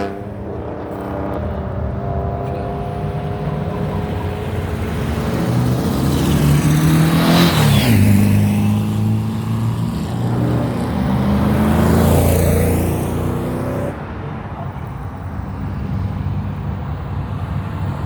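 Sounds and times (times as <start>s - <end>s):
cars with loud exhausts passing: 0.0s - 18.0s.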